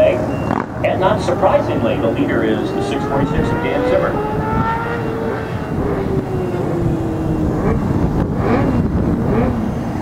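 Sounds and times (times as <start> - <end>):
racing motorcycle engine: 0.0 - 10.0.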